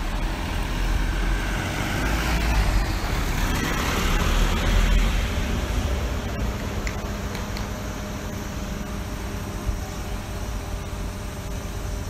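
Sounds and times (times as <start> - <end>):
truck and car passing: 0.0 - 12.0.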